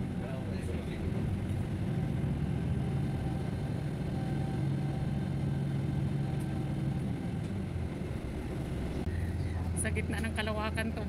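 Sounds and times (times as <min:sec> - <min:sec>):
vehicle engine hum: 0:00.0 - 0:11.0.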